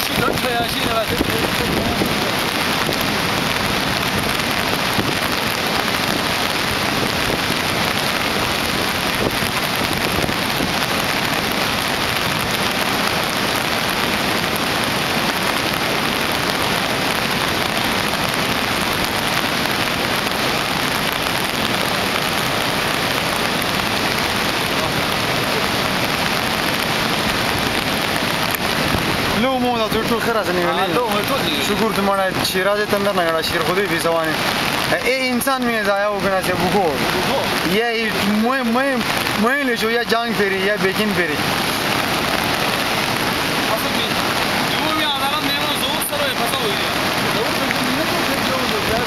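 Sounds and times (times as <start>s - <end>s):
river torrent roaring: 0.0s - 49.0s.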